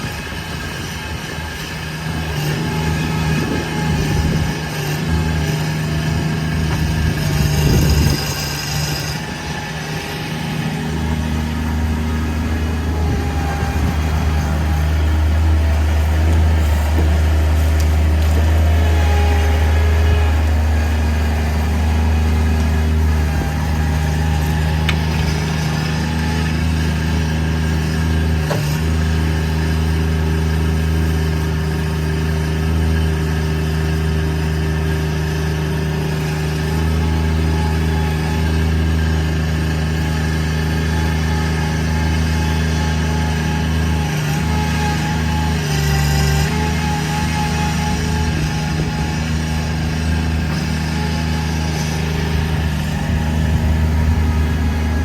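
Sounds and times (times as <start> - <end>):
mini loader engine running: 0.0 - 55.0.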